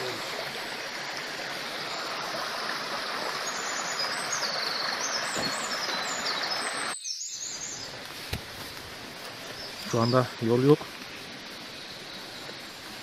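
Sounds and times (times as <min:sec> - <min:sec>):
creek water rushing over rocks: 0:00.0 - 0:13.0.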